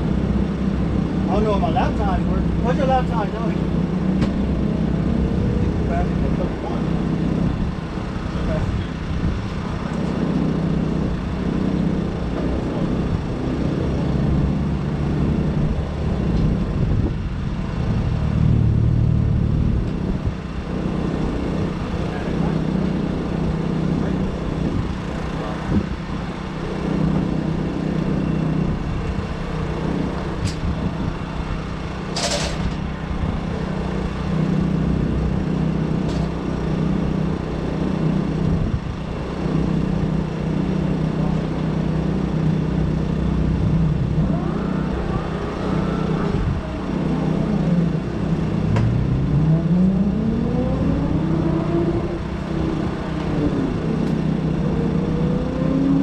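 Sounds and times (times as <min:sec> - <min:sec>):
engine revving: 0:00.0 - 0:31.5, 0:32.1 - 0:56.0.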